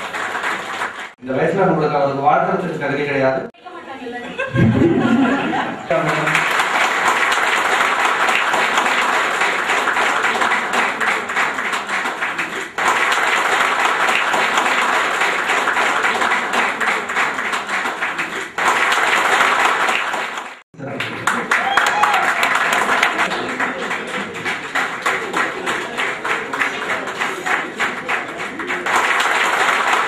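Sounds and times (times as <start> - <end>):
audience clapping: 0.0 - 1.2, 5.9 - 30.0.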